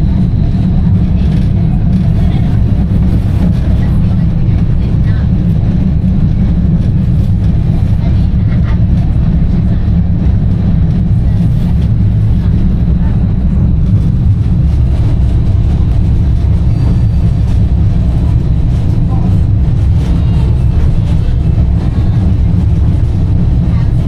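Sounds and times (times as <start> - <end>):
streetcar low rumble: 0.0 - 24.0.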